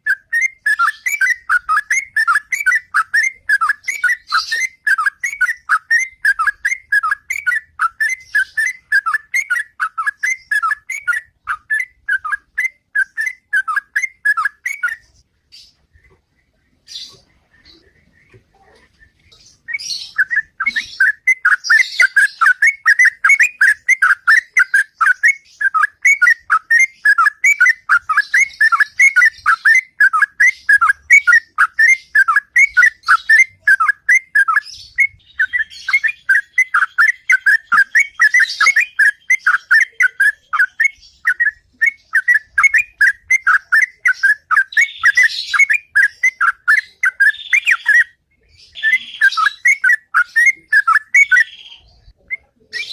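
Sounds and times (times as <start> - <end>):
bulbul singing whistled notes: 0.0 - 16.1, 16.8 - 52.9.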